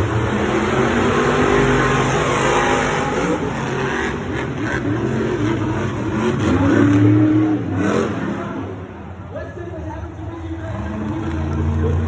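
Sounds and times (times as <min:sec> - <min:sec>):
monster truck engines revving: 0:00.0 - 0:12.0.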